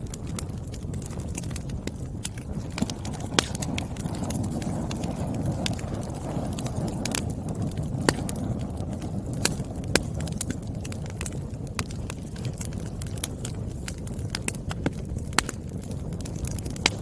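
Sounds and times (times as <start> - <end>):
firewood burning and crackling: 0.0 - 17.0
sharp pops of fire: 0.0 - 17.0.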